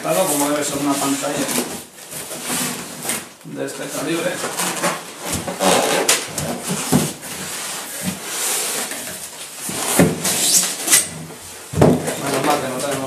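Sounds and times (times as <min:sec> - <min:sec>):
cardboard and foam scraping: 0:00.0 - 0:13.0.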